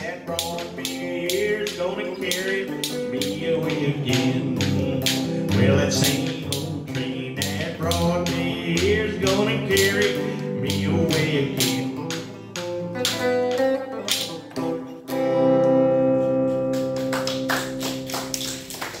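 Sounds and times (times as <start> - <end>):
electric guitar strumming chords: 0.0 - 18.4.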